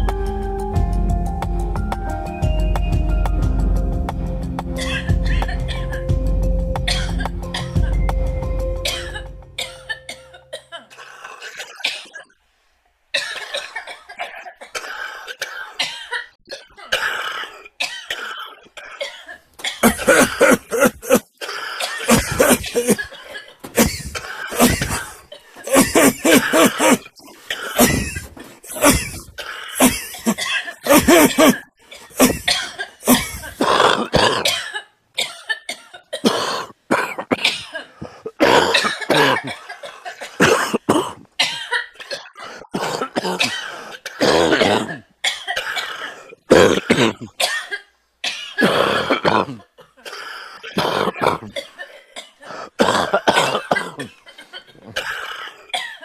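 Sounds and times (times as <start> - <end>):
person coughing: 4.8 - 6.1, 6.9 - 8.0, 8.8 - 12.3, 13.2 - 56.0.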